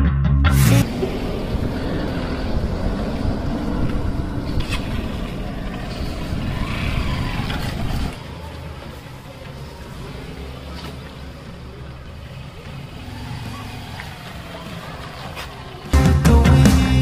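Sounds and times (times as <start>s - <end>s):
road vehicle running: 0.4s - 17.0s.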